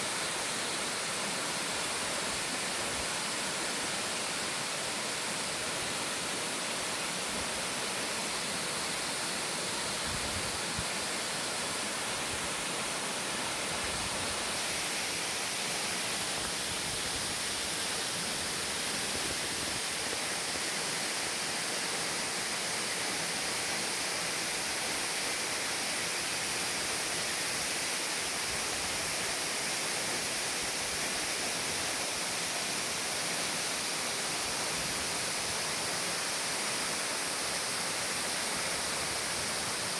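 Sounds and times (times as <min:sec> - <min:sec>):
waterfall rushing hiss: 0:00.0 - 0:39.9.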